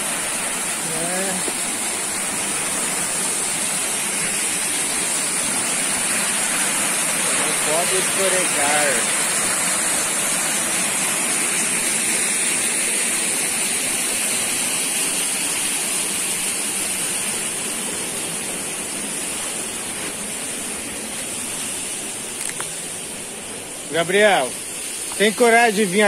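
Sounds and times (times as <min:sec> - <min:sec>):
waterfall pouring onto rocks: 0:00.0 - 0:26.0.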